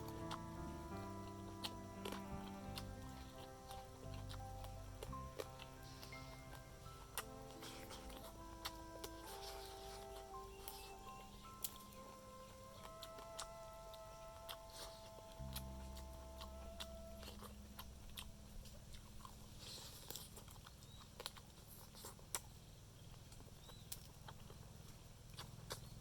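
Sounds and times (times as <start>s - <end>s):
chewing and crunching: 0.0s - 26.0s.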